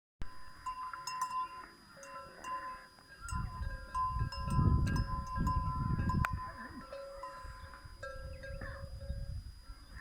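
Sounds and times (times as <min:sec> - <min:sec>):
metal bells ringing: 0:00.4 - 0:09.5.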